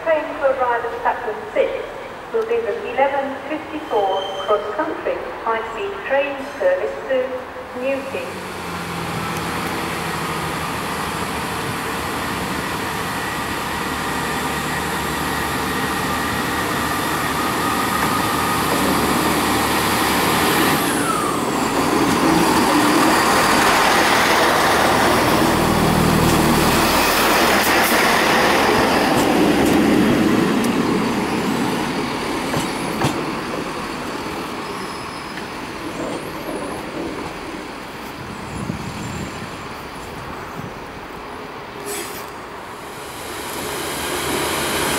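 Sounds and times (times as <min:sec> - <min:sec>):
diesel train passing: 0:01.8 - 0:44.9.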